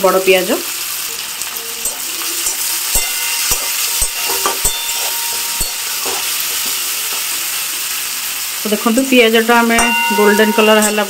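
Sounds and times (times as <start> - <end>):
onion sizzling in oil: 0.0 - 11.0.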